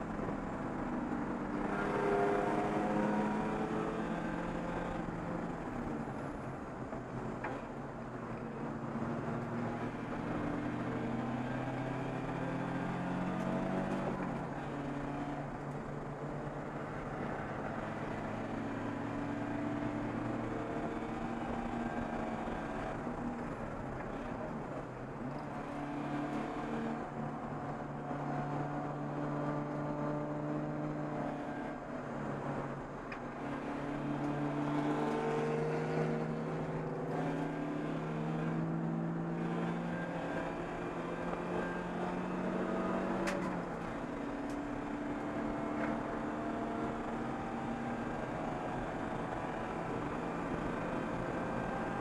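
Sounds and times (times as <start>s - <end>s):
race car engine running hard: 0.0s - 52.0s.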